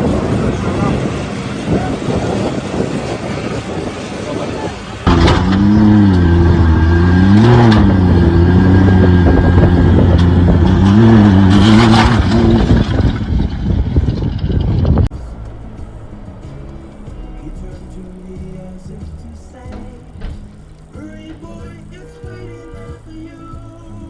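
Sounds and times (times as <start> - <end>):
vehicle engine revving: 0.0 - 23.6.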